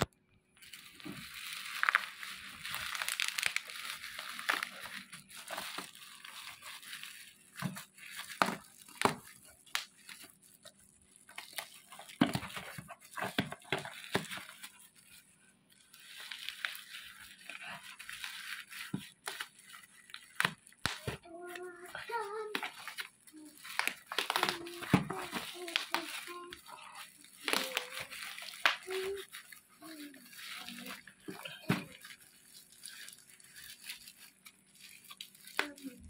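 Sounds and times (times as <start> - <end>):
plastic wrapping crinkling and tearing: 0.0 - 36.0.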